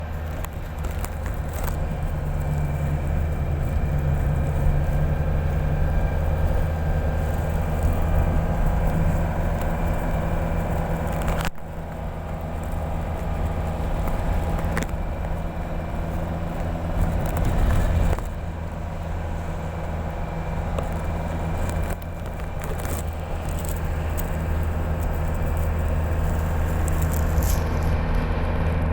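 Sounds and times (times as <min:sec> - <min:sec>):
crackle: 0:00.0 - 0:28.9
low engine-like drone: 0:00.0 - 0:28.9.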